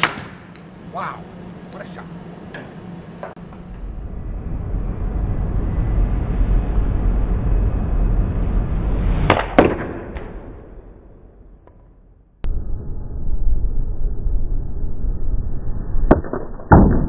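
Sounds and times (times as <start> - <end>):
low rumble: 3.3 - 17.0.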